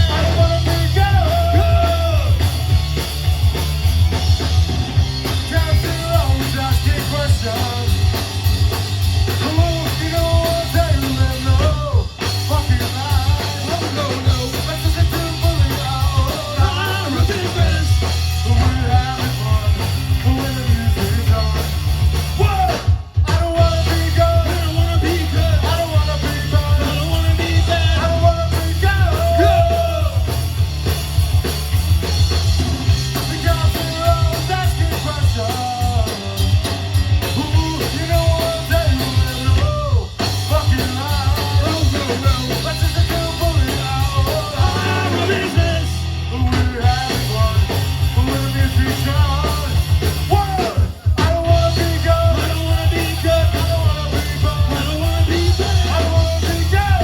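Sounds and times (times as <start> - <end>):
punk rock band playing live: 0.0 - 57.0.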